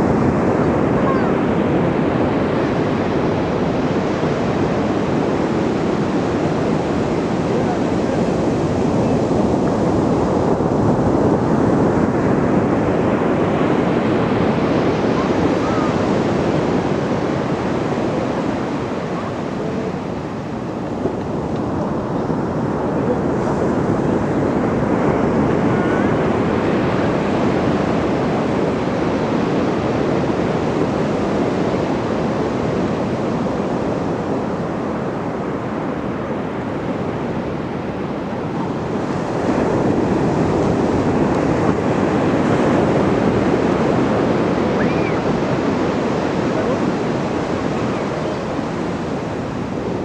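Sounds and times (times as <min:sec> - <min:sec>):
ocean surf breaking: 0:00.0 - 0:50.0.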